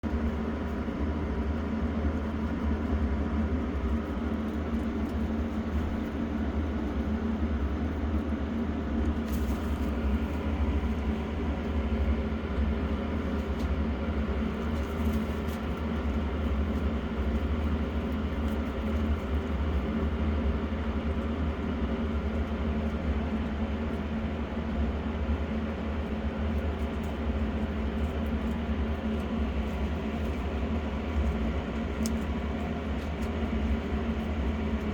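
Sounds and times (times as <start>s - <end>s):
electric fan whirring: 0.0s - 34.9s.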